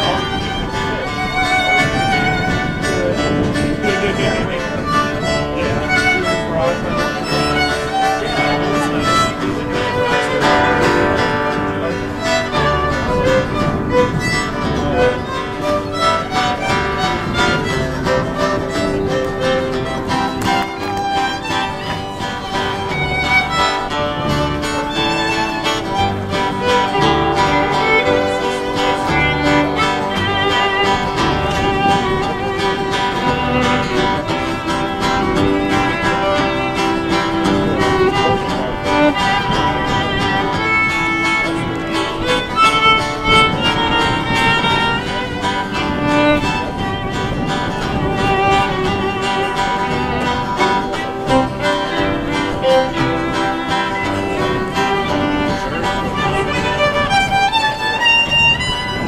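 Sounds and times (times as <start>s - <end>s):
acoustic guitar: 0.0s - 59.0s
fiddle lead: 0.0s - 59.0s
upright bass: 1.9s - 45.2s, 45.9s - 47.0s, 48.1s - 57.5s.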